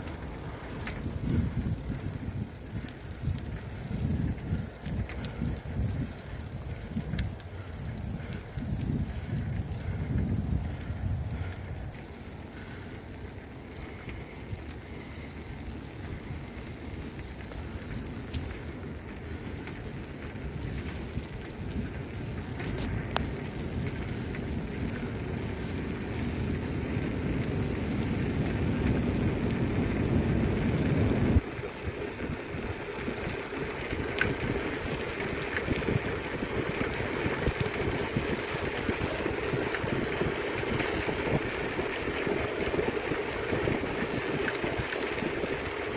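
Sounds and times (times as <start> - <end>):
bicycle ride rushing noise: 0.0 - 45.9.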